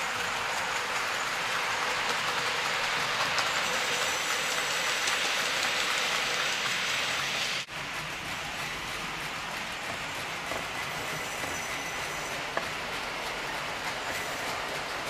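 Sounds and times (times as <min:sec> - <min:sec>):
model train wheels on rail: 0:00.0 - 0:15.0.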